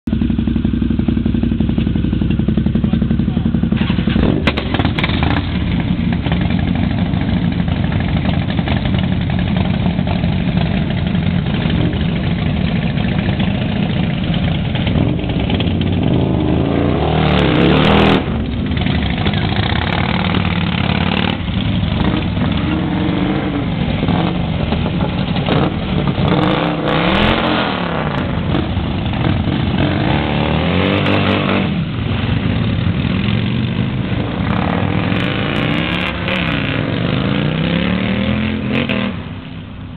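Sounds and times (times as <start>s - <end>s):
motorcycle trike engines revving: 0.0s - 39.9s.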